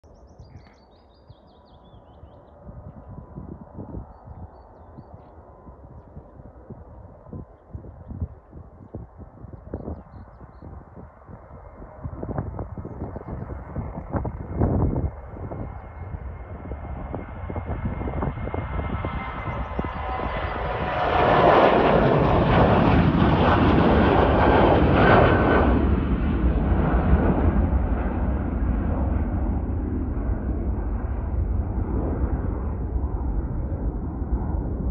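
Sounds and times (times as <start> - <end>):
jet engines at takeoff: 0.1 - 34.9.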